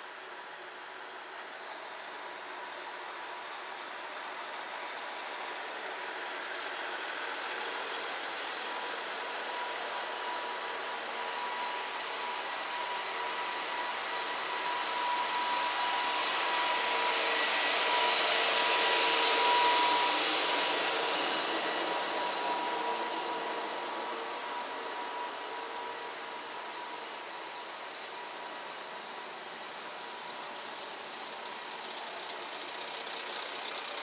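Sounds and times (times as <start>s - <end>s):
thin steady whine: 0.0s - 34.0s
diesel railcar passing: 0.6s - 34.0s.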